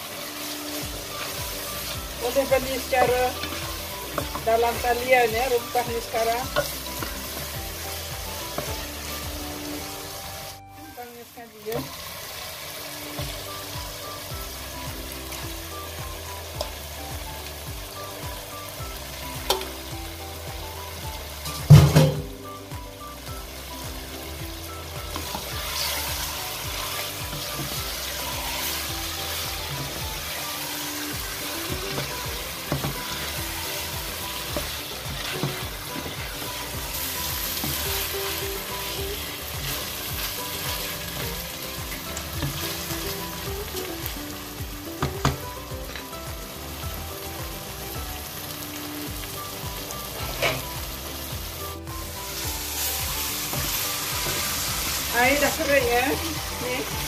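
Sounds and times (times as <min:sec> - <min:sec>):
chicken frying with steady sizzle: 0:00.0 - 0:57.0.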